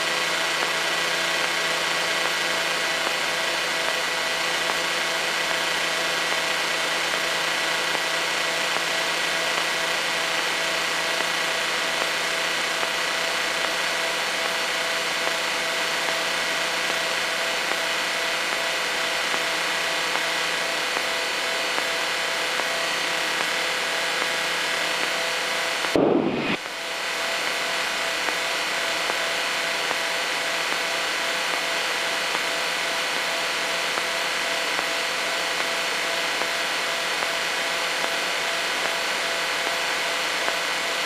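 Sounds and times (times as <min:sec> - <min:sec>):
light aircraft engine drone: 0:00.0 - 0:41.0.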